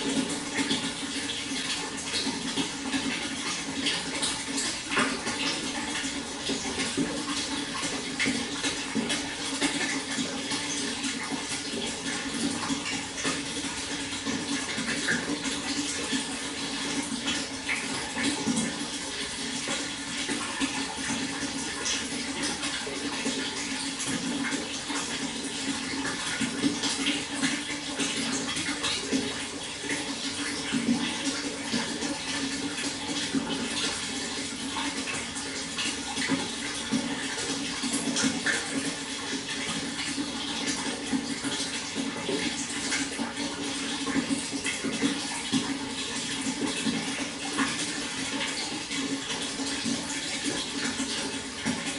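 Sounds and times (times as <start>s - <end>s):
water flowing: 0.0s - 51.9s.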